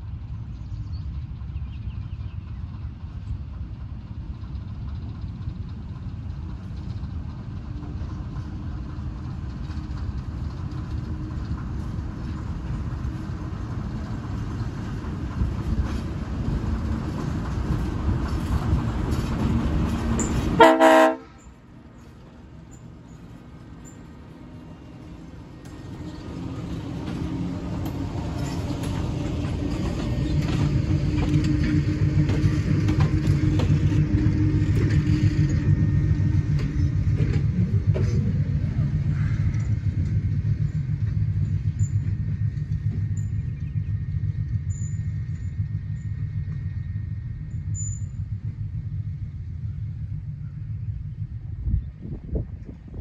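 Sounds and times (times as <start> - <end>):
diesel locomotive engine rumbling: 0.0 - 53.0.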